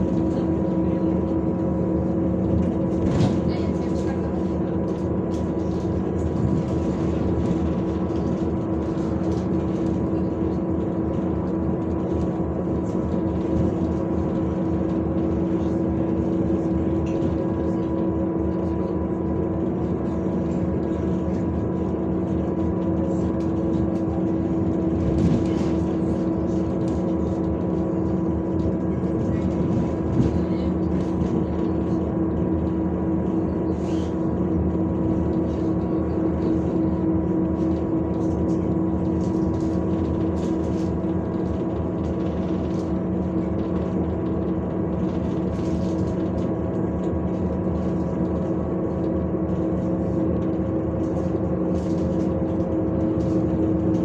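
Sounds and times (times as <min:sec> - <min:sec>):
bus engine and running gear drone: 0:00.0 - 0:54.0
constant humming tone: 0:00.0 - 0:54.0.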